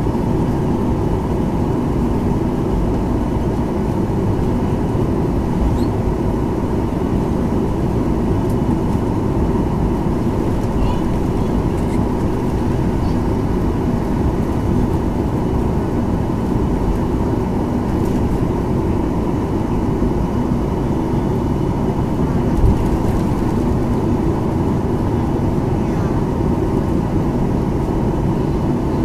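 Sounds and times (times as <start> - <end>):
airplane cabin engine noise: 0.0 - 29.0
low rumble of airframe: 0.0 - 29.0.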